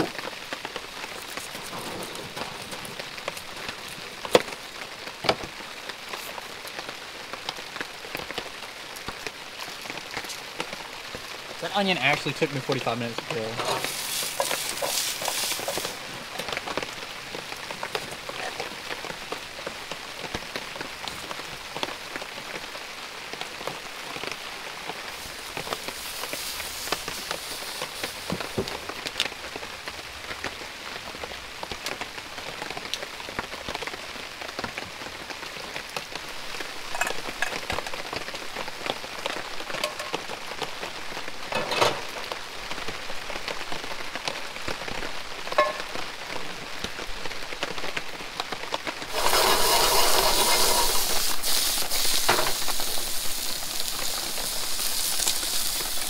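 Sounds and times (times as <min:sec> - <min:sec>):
rain pattering on tarp: 0:00.0 - 0:56.0.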